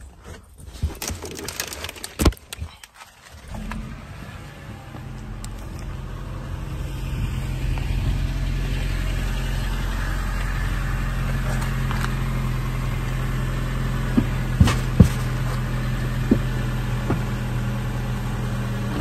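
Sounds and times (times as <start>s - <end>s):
car engine idling: 3.1s - 19.0s.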